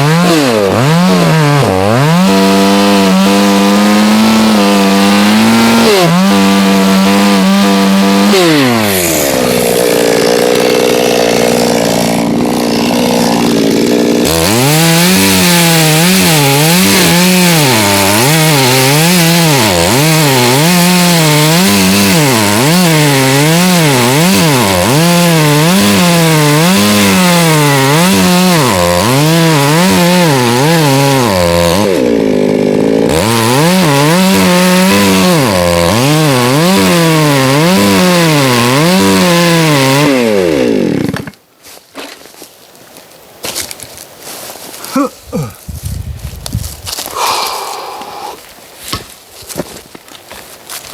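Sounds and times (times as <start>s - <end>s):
chainsaw cutting wood: 0.0s - 42.1s, 46.4s - 50.9s.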